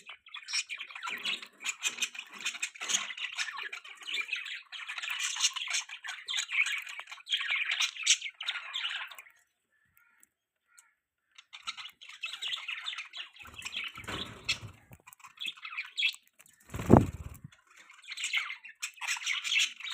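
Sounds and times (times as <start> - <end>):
budgies chirping: 0.0 - 19.9.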